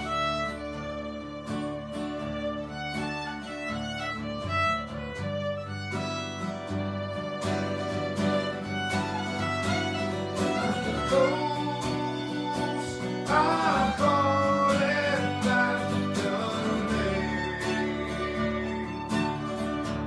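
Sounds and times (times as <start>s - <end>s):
fiddle playing melody: 0.0s - 20.0s
strummed guitar: 0.0s - 20.0s.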